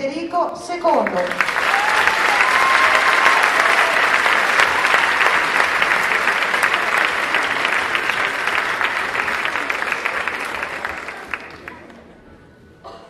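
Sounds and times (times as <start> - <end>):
audience applauding: 1.0 - 12.2.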